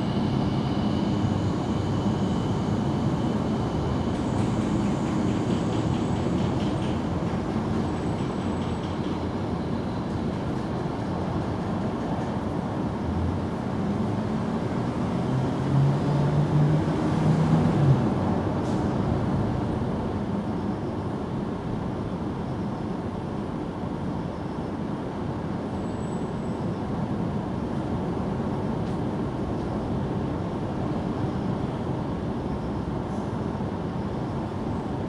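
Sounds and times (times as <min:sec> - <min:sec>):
rumble of passing vehicles: 0:00.0 - 0:35.0.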